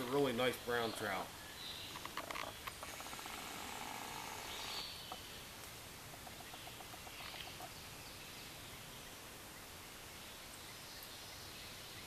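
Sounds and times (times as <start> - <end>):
birds calling: 0.0 - 12.0
faint steady hiss: 0.0 - 12.0.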